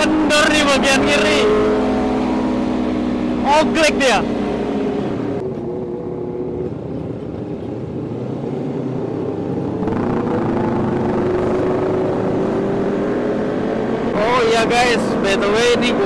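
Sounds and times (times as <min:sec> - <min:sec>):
motorcycle engine running: 0:00.0 - 0:14.0
wind and road noise: 0:00.0 - 0:16.0.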